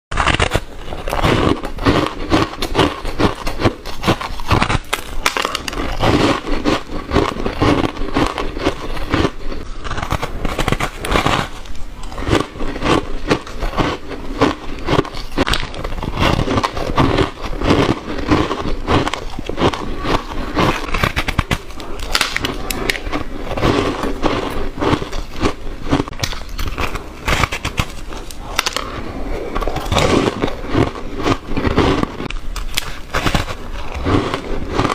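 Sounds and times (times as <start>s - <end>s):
person chewing ice: 0.1s - 34.9s.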